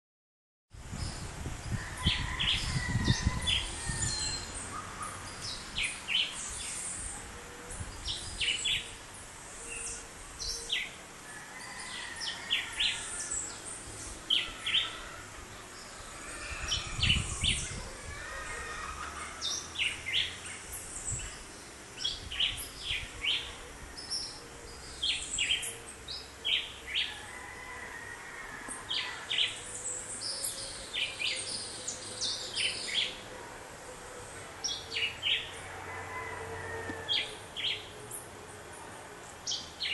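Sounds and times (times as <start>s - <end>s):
birds chirping and calling: 1.0s - 11.0s, 11.6s - 27.7s, 28.6s - 39.9s.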